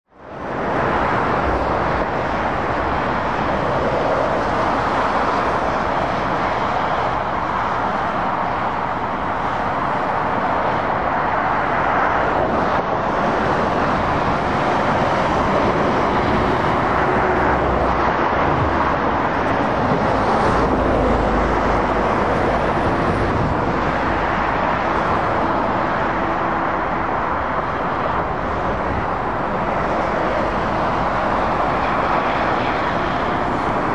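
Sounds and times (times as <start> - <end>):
road traffic rushing: 0.1 - 33.9
heavy truck rumbling: 0.5 - 33.9.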